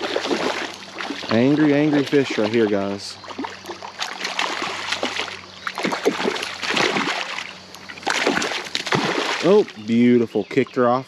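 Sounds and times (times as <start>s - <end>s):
fish splashing at water surface: 0.0s - 9.8s.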